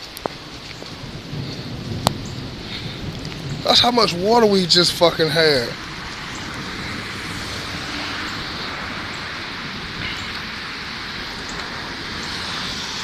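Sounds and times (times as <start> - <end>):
floodwater running: 0.0 - 13.0
rain hissing: 0.0 - 13.0.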